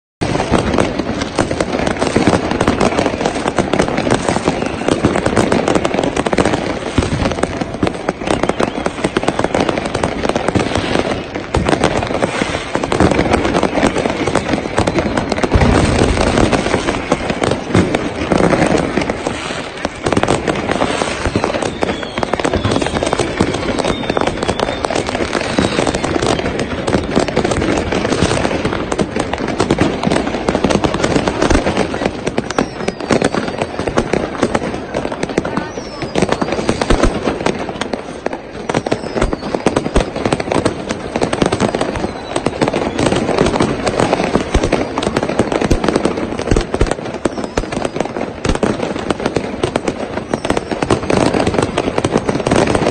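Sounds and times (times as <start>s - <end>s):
fireworks crackling and banging: 0.2s - 52.9s.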